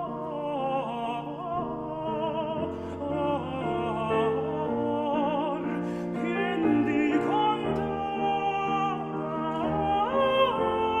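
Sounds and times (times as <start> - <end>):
slow operatic music with vibrato: 0.0 - 11.0.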